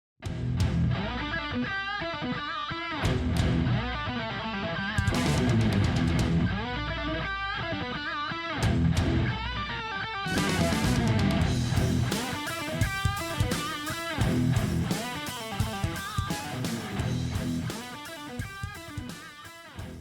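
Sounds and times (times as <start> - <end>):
electric guitar music: 0.3 - 20.0.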